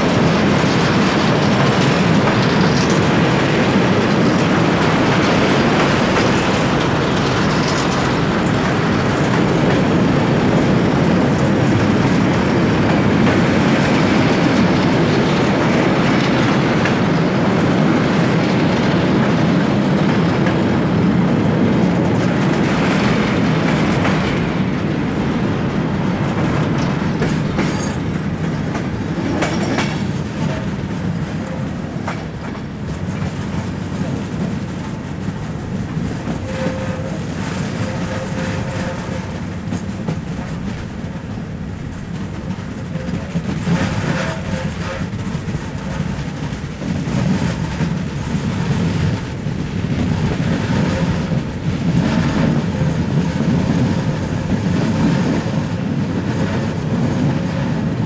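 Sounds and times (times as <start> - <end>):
rail joint clicks: 0.0 - 58.0
train wheels rumbling on track: 0.0 - 58.0.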